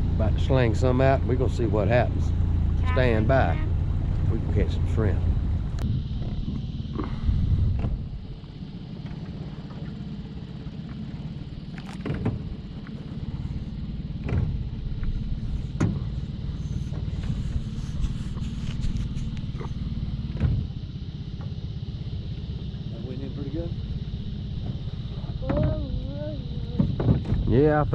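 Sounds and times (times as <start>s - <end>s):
boat motor idling: 0.0s - 27.9s.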